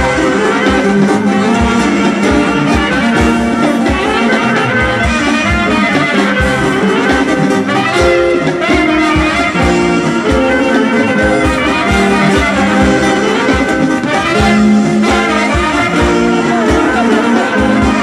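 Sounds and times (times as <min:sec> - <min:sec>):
bass drum beat: 0:00.0 - 0:18.0
trumpets and saxophones playing: 0:00.0 - 0:18.0.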